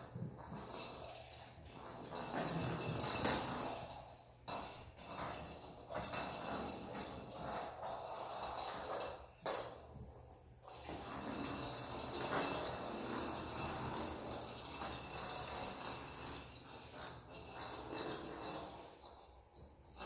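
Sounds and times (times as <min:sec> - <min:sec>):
toy ball jingling: 0:00.0 - 0:20.0.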